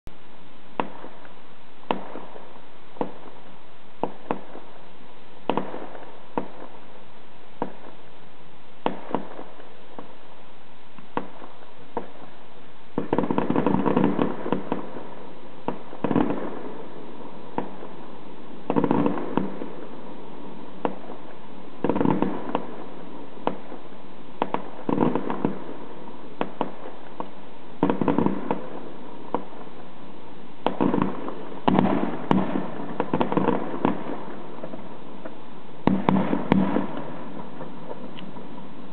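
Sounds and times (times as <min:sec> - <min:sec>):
fireworks crackling: 0:00.1 - 0:38.9
fireworks bangs: 0:00.7 - 0:07.0, 0:07.6 - 0:08.1, 0:08.8 - 0:10.2, 0:10.9 - 0:38.9.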